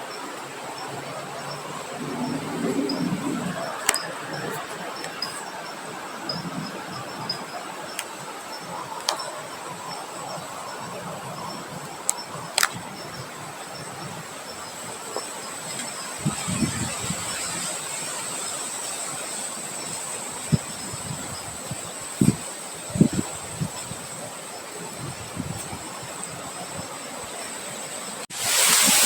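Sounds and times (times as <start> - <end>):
rain hiss: 0.0 - 29.0
wind: 0.0 - 29.0.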